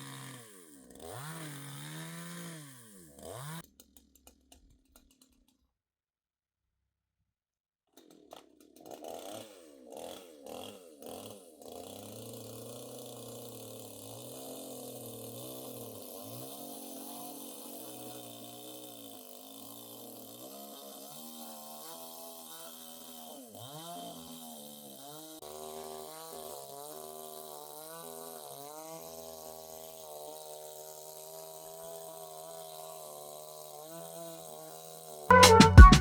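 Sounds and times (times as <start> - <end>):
chainsaw engine running: 0.0 - 3.7, 8.0 - 36.0.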